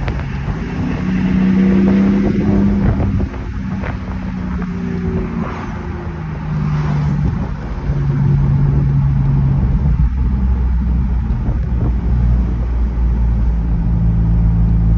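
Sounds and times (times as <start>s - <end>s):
car engine running: 0.0s - 14.9s
road and wind noise: 0.0s - 14.9s.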